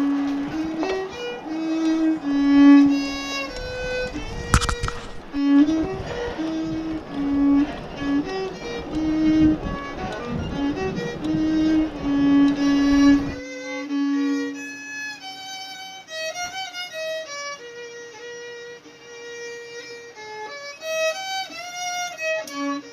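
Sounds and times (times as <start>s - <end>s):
solo fiddle melody: 0.0s - 22.9s.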